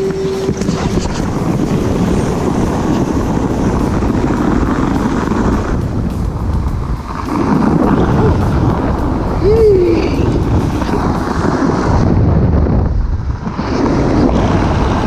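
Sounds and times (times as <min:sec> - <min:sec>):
snow scraping under sliding tube: 0:00.0 - 0:15.0
wind buffeting microphone: 0:00.0 - 0:15.0.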